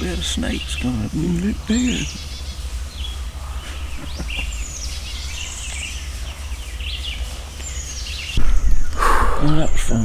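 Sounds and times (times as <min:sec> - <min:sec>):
songbirds singing: 0:00.0 - 0:10.0
steady low rumble: 0:00.0 - 0:10.0.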